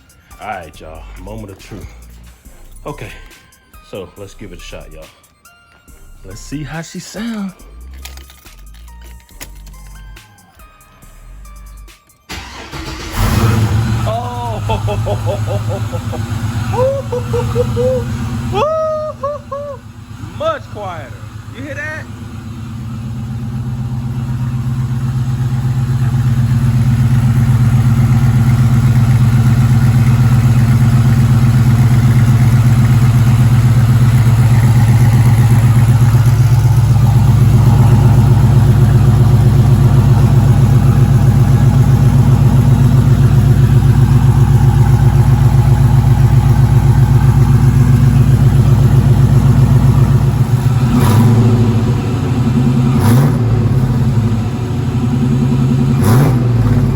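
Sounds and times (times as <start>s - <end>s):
engine idling: 0.0s - 3.6s, 11.0s - 56.9s.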